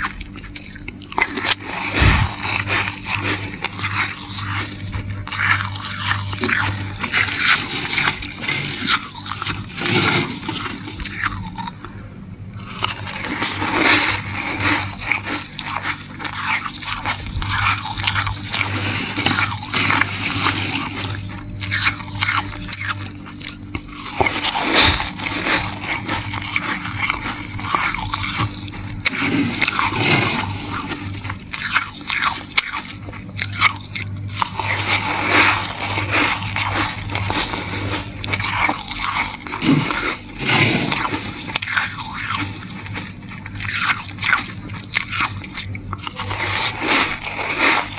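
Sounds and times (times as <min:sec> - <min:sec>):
faint low hum: 0:00.0 - 0:47.9
freezer frost being scraped: 0:00.0 - 0:47.9.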